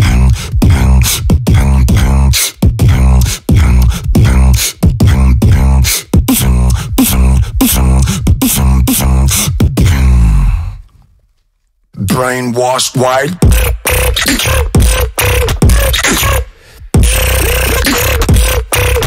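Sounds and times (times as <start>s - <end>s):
person beatboxing into microphone: 0.0s - 10.9s, 12.0s - 19.0s.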